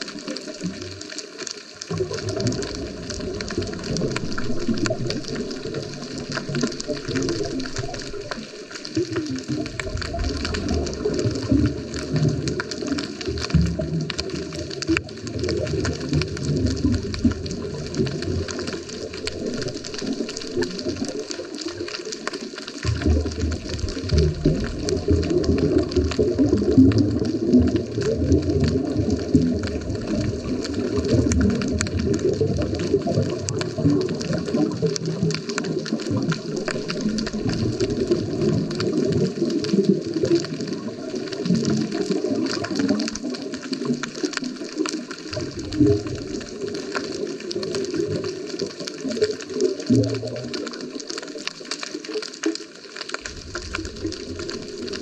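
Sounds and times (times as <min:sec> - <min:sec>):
underwater exhaled bubbles: 0:00.0 - 0:55.0.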